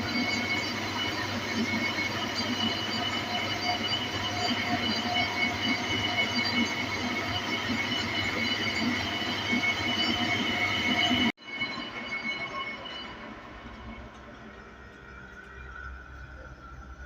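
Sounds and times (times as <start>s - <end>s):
machine squealing whine: 0.0s - 17.0s.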